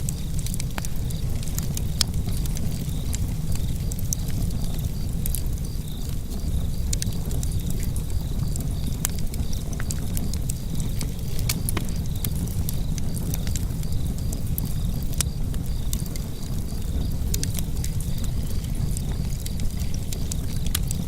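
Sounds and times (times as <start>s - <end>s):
fire crackling and popping: 0.0s - 21.0s
flames rumbling: 0.0s - 21.0s.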